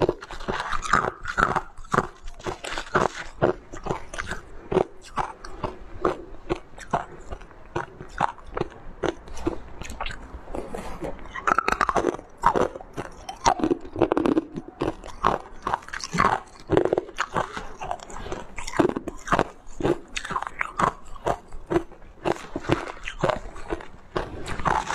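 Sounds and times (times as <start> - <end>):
ice crunching being chewed: 0.0 - 24.9.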